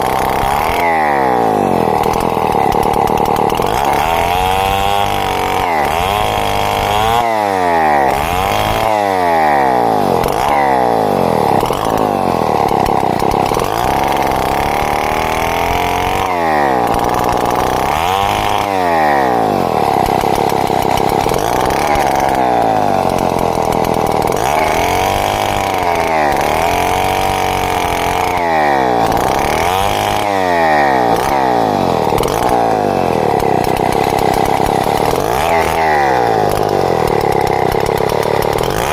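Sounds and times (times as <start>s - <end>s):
chainsaw cutting timber: 0.0s - 38.9s.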